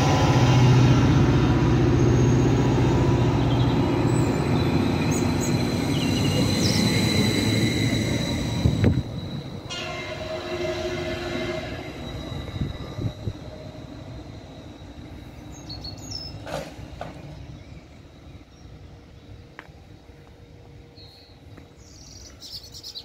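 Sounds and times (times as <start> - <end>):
train pulling away: 0.0 - 22.8.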